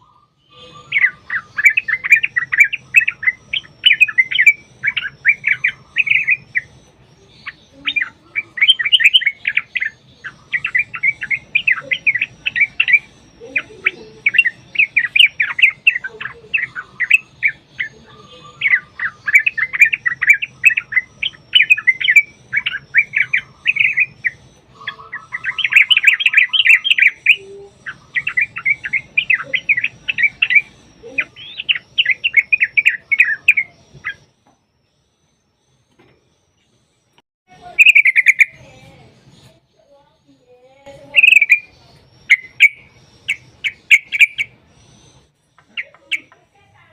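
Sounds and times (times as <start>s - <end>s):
bulbuls singing chattering phrases: 0.0s - 36.8s, 37.5s - 46.9s.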